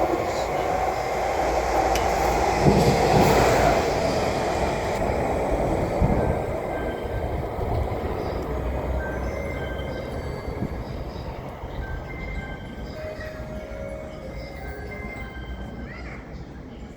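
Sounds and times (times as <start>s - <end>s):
locomotive engine and wheels rumbling: 0.0s - 16.9s.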